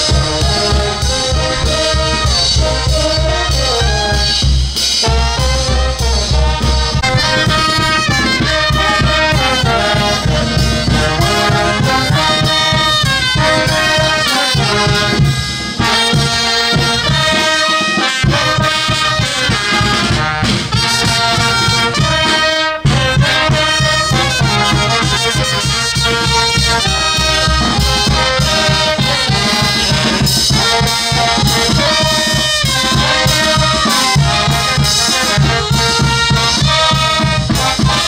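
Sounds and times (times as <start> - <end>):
brass band playing: 0.0 - 38.0.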